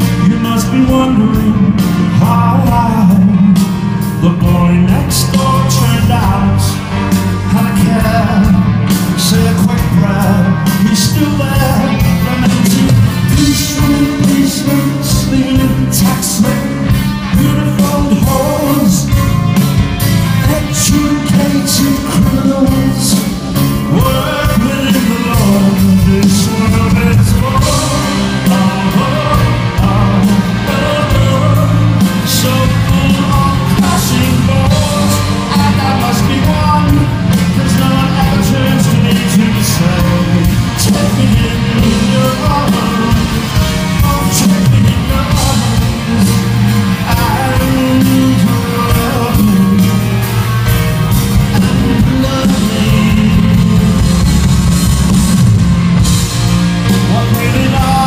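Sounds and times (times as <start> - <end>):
male lead vocal: 0.0 - 55.4, 56.6 - 58.0
live rock band playing: 0.0 - 58.0.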